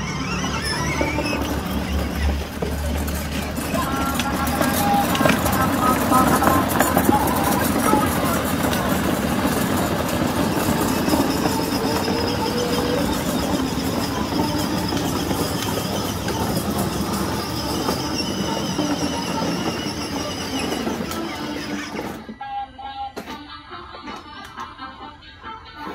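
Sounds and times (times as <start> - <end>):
plastic wheels rattling on paving: 0.0 - 22.4.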